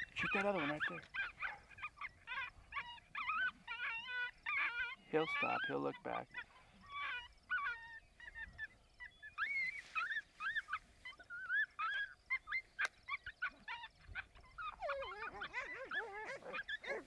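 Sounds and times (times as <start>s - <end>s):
coyotes howling: 0.0s - 17.0s
coyotes yipping: 0.0s - 17.0s.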